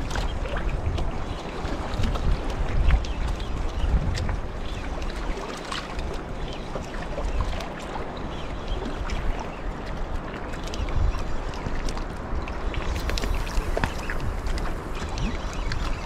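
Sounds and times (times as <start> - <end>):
water sounds: 0.0 - 16.0
wind buffeting microphone: 0.0 - 16.0.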